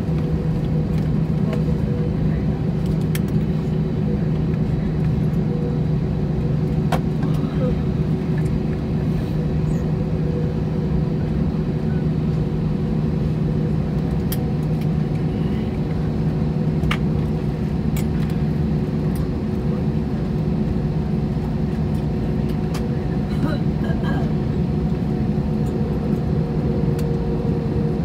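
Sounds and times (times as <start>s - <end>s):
jet engines idling: 0.0s - 28.0s.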